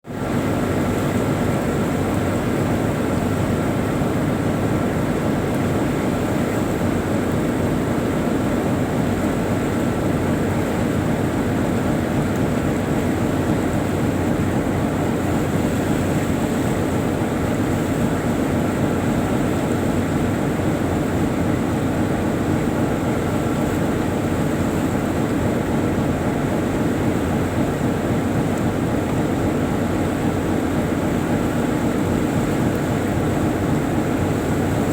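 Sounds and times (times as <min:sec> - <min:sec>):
boat diesel engine drone: 0:00.1 - 0:34.9.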